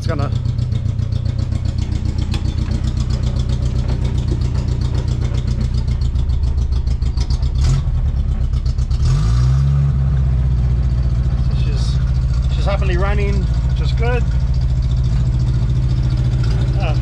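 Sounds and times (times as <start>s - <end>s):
car engine running and revving: 0.0s - 17.0s.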